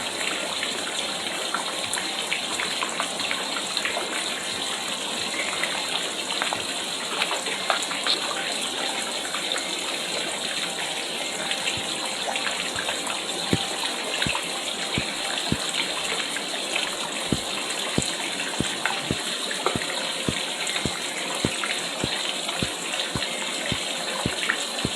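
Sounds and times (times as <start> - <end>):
waterfall splashing into pond: 0.0 - 24.9.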